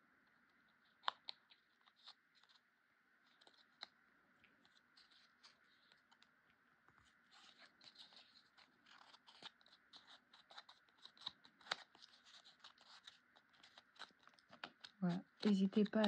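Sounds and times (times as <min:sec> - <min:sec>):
cardstock crinkling and scratching: 0:00.8 - 0:03.9, 0:04.5 - 0:06.3, 0:06.9 - 0:16.0.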